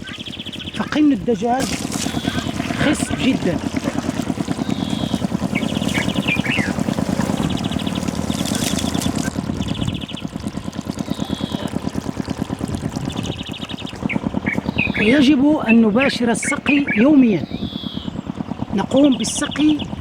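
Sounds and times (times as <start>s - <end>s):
bird trills and chirps: 0.0s - 1.2s, 2.0s - 10.4s, 11.0s - 11.8s, 13.0s - 20.0s
small engine running: 0.0s - 20.0s.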